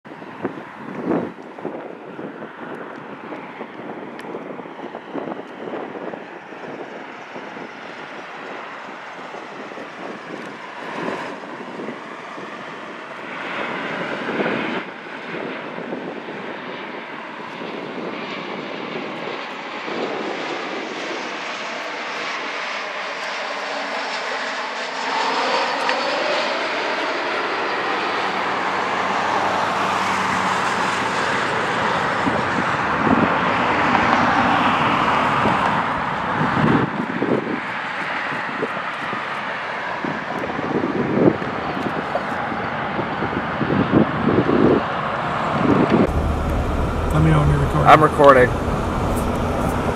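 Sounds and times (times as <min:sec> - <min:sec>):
jet plane engines rumbling: 0:00.1 - 0:49.9.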